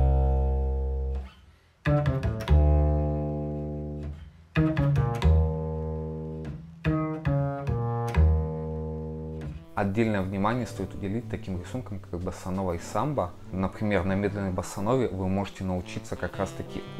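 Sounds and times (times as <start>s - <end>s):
pizzicato double bass: 0.0s - 16.9s.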